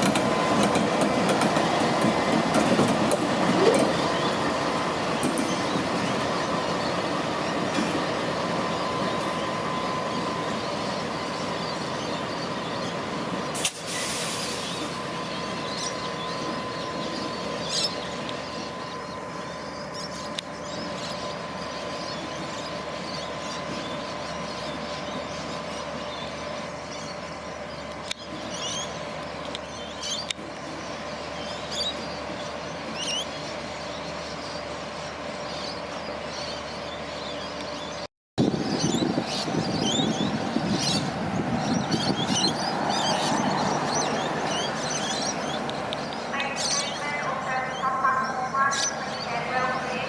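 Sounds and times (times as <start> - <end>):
train rolling on rails: 0.0 - 50.0.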